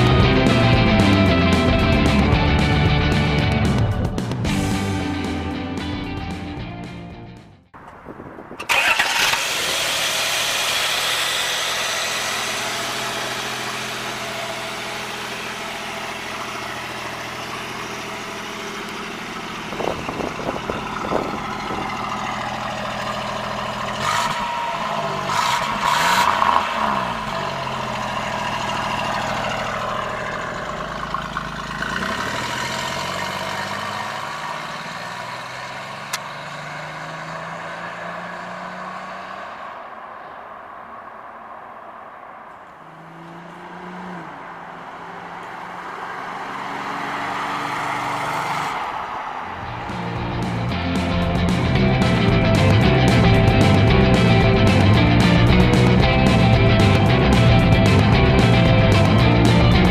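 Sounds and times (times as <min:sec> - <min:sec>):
car engine idling and revving: 0:00.0 - 0:59.9
car accelerating away: 0:08.6 - 0:59.9.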